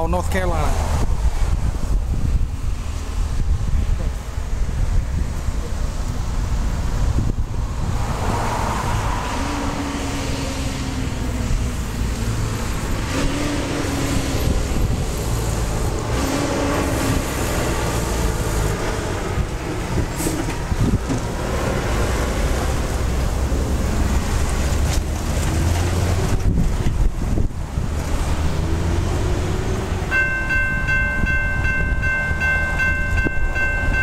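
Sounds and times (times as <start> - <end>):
road traffic passing: 0.0 - 34.0
wind rumbling on microphone: 0.0 - 34.0.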